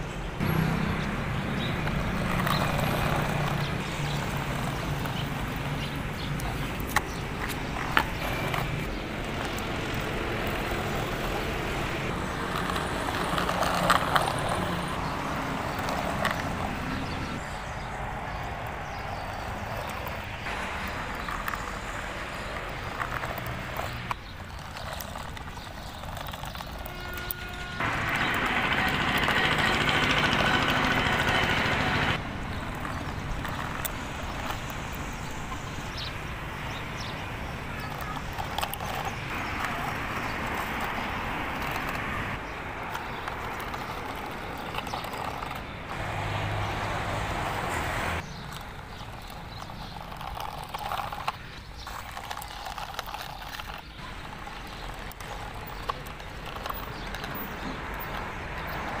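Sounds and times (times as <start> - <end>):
vehicle engine: 0.0 - 59.0.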